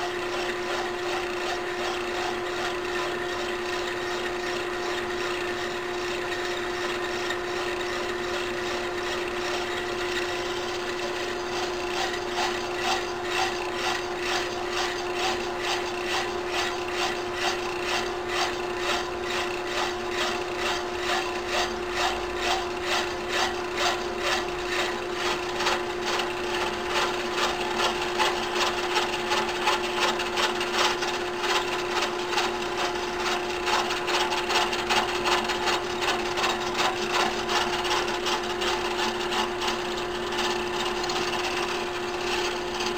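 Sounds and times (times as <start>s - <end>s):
metal lathe humming: 0.0s - 42.9s
saw blade rasping on metal: 0.0s - 42.9s.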